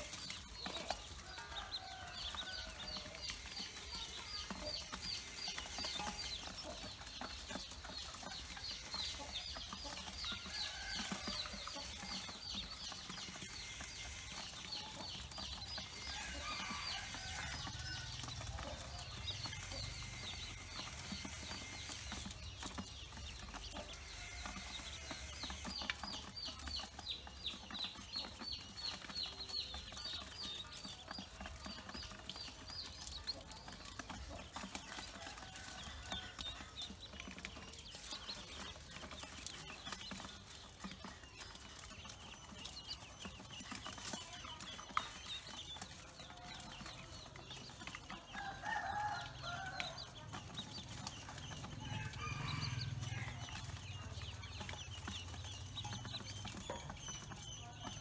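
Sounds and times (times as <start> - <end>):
ducklings pecking at grain: 0.0 - 58.0
ducklings peeping: 0.0 - 58.0.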